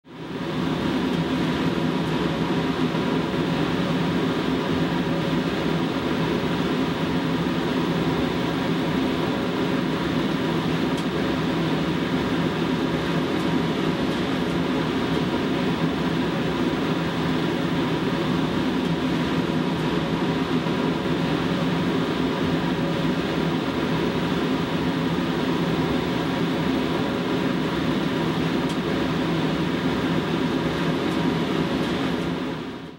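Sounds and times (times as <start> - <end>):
mechanical hum: 0.1 - 32.9.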